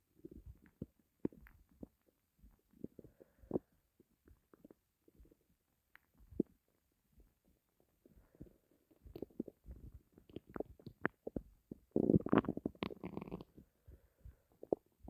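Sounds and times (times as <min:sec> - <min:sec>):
stomach growling: 0:00.2 - 0:06.6, 0:08.0 - 0:15.0.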